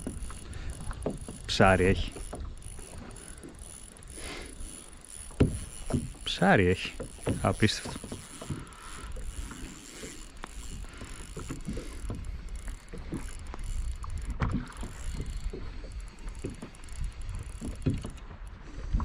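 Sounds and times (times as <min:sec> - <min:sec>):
small knocks and clicks: 0:00.0 - 0:04.0, 0:04.7 - 0:18.5
water sounds: 0:00.0 - 0:19.0.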